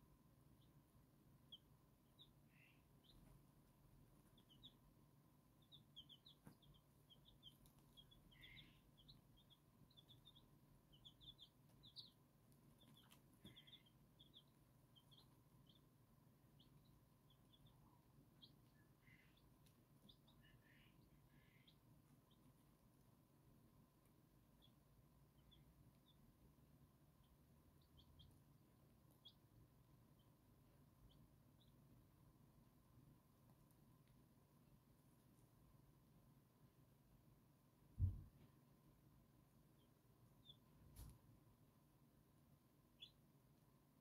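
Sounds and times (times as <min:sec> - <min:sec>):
chicks peeping: 0:00.4 - 0:35.6, 0:39.6 - 0:41.2, 0:42.9 - 0:43.3.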